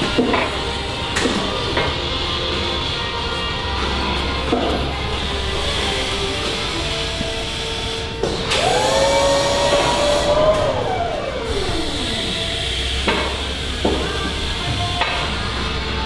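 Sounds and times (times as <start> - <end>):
motor spinning with whine: 0.0 - 16.0.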